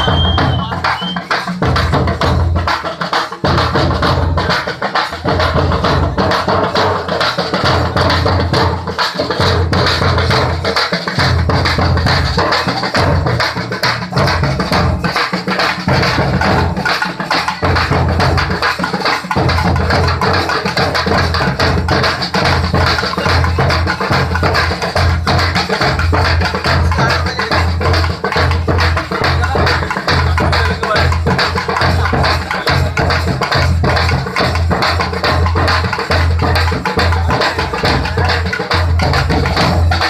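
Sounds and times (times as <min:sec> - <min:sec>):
drum-driven music: 0:00.0 - 0:40.0.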